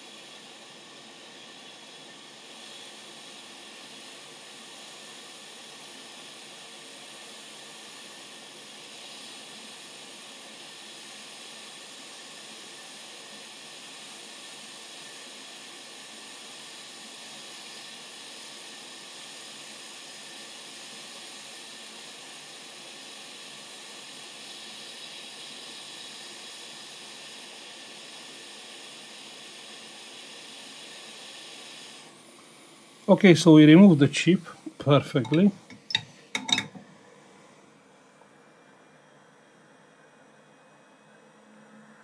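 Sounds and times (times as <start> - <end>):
hot air nozzle hissing: 0.0 - 12.6, 13.2 - 32.8, 33.4 - 36.8.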